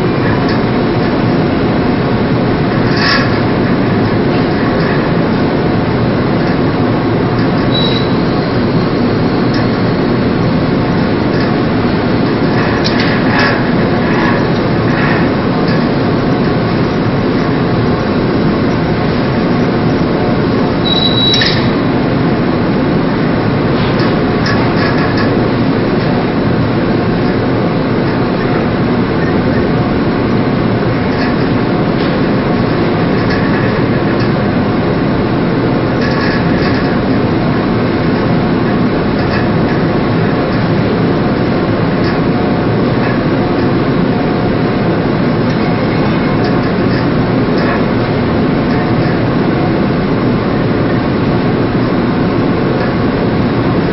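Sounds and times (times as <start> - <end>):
ship engines rumbling: 0.0 - 53.9.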